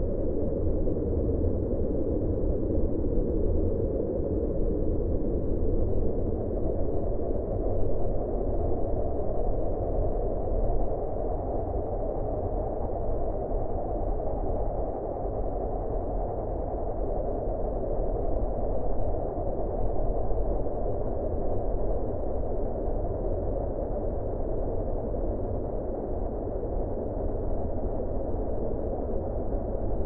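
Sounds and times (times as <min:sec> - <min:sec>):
low wind with deep rumble: 0:00.0 - 0:30.0.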